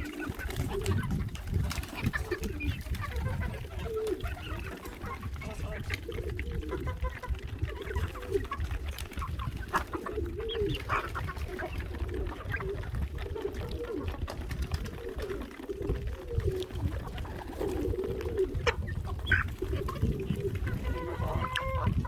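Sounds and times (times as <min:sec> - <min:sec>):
chickens clucking: 0:00.0 - 0:22.0
pigeons cooing: 0:00.0 - 0:22.0.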